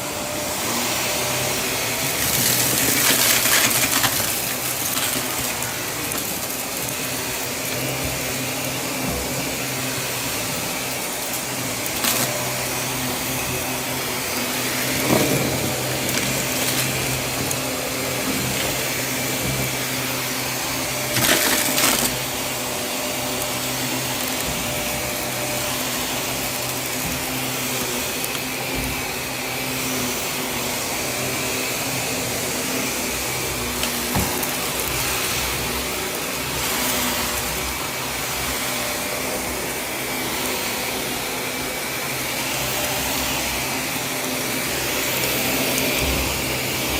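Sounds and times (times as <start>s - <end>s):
vacuum cleaner motor: 0.0s - 46.9s
grit crackling in vacuum: 0.6s - 46.9s.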